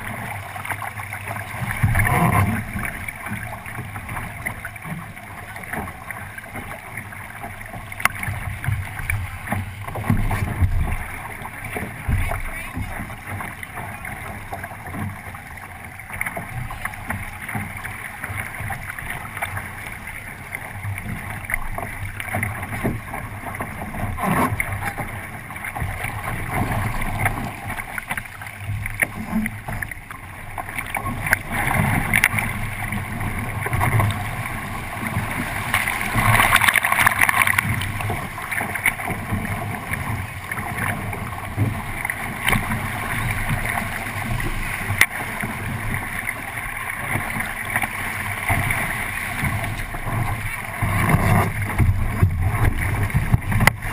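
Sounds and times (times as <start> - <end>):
water rushing along a hull: 0.0 - 53.9.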